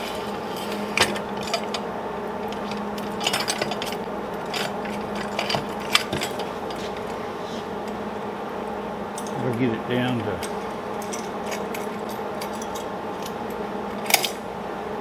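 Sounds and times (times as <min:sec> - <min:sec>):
metal clinks and scraping: 0:00.0 - 0:08.0, 0:09.1 - 0:14.5
steady low hum: 0:00.0 - 0:15.0.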